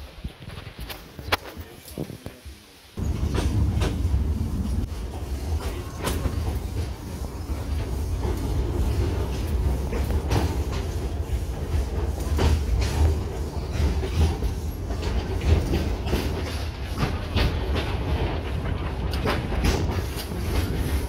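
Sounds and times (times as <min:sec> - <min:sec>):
train rumbling: 0:00.0 - 0:21.0
wheels clicking over rail joints: 0:03.0 - 0:21.0.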